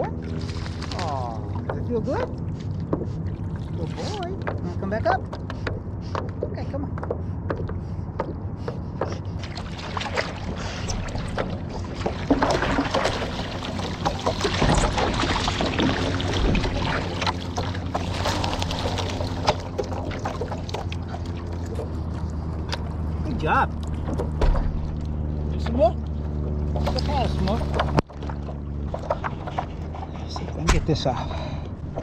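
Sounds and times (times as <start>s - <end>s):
steady low hum: 0.0s - 32.0s
water splashing and sloshing: 0.0s - 32.0s.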